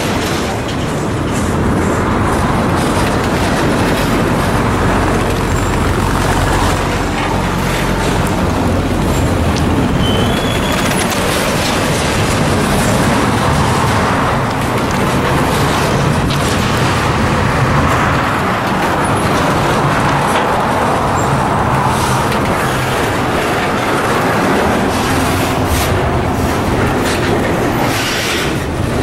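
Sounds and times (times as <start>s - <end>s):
train rumbling past: 0.0s - 29.0s.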